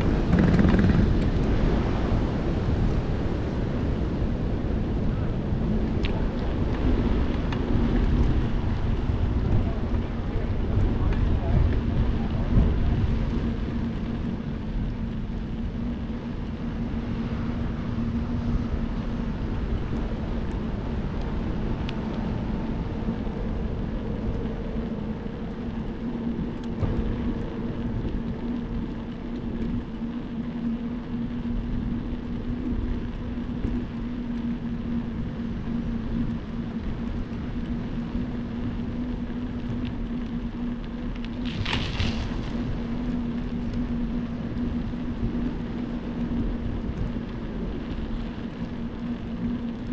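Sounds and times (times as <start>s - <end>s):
low hum from bicycle ride: 0.0s - 49.9s
wind rushing over microphone: 0.0s - 49.9s.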